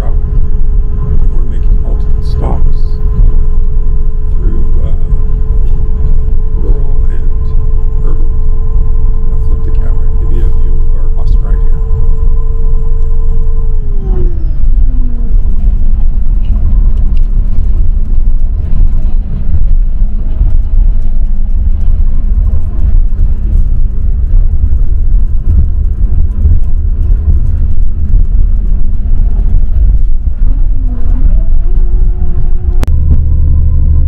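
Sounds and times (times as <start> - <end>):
bus engine and road rumble: 0.0 - 34.0
constant hum: 0.0 - 34.0.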